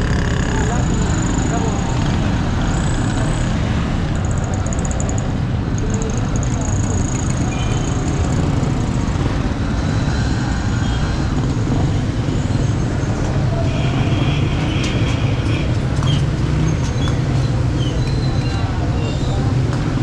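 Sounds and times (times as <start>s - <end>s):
rumble of vehicle engines: 0.0s - 20.0s.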